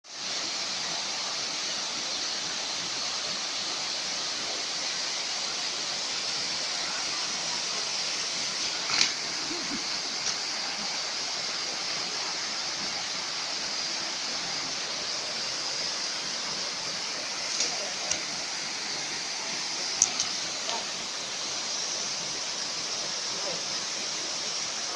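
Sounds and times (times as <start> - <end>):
waterfall rushing: 0.1 - 24.9.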